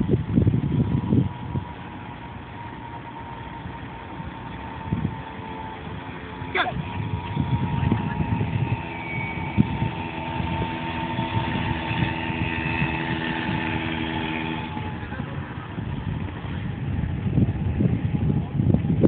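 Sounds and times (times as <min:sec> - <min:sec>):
irregular low rumble: 0:00.0 - 0:19.0
vehicle engine running steadily: 0:00.0 - 0:19.0.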